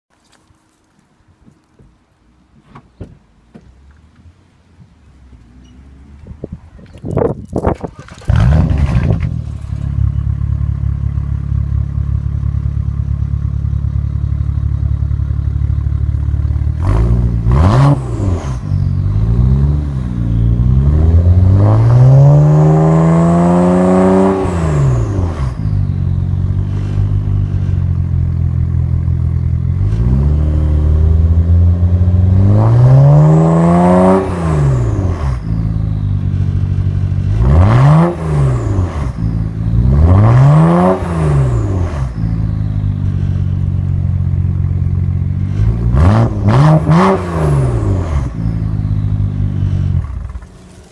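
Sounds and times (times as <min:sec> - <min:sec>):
car engine idling and revving: 0:02.2 - 0:50.9.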